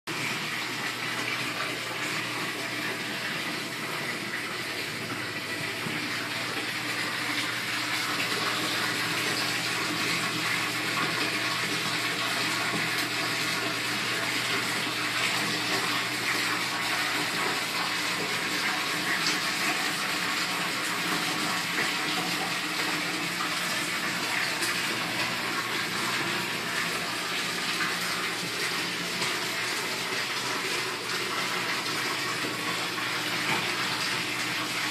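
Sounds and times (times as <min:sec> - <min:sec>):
aquarium water bubbling: 0:00.1 - 0:34.9
low pump hum: 0:00.1 - 0:34.9.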